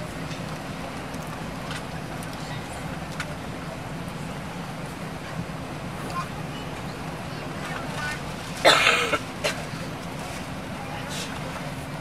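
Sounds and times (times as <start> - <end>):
aircraft engines idling hum: 0.0 - 12.0.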